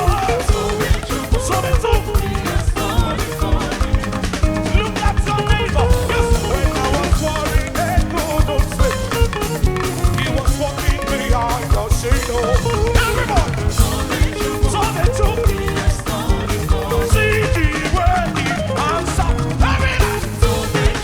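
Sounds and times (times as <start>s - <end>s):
drum kit beat: 0.0s - 21.0s
live gospel band music: 0.0s - 21.0s
person singing: 0.0s - 21.0s.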